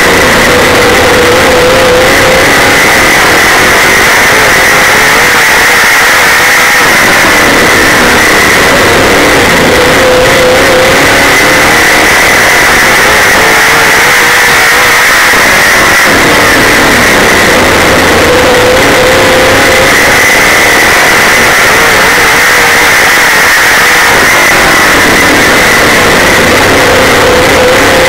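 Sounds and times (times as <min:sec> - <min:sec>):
race car engine running hard: 0:00.0 - 0:28.0.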